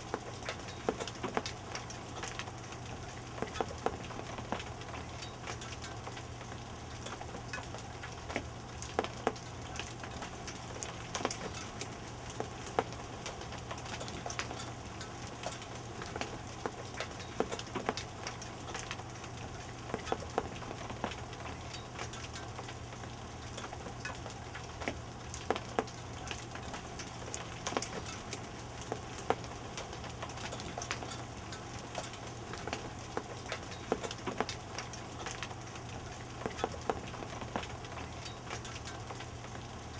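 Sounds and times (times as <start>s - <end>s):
hailstones ticking on surfaces: 0.0s - 39.9s
rain hissing: 0.0s - 39.9s.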